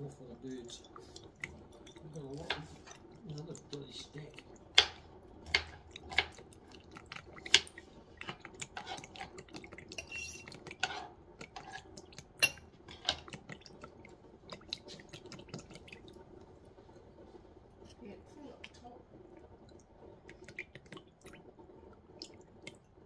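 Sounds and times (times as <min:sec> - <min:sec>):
thin trickle of liquid: 0:00.0 - 0:04.8, 0:05.8 - 0:23.0.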